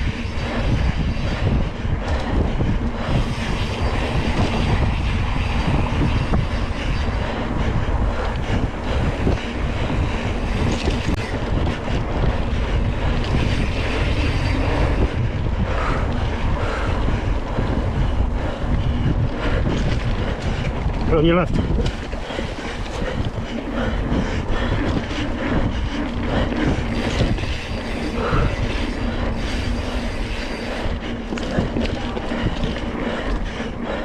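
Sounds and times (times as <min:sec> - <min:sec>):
mountain bike rumbling and rattling: 0:00.0 - 0:34.0
wind buffeting microphone: 0:00.0 - 0:34.0.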